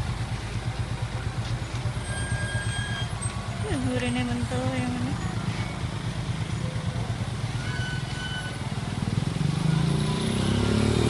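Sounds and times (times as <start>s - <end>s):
diesel truck engine idling: 0.0s - 9.8s.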